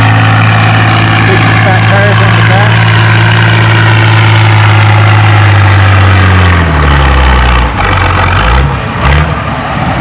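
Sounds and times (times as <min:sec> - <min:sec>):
tractor engine under full load: 0:00.0 - 0:10.0.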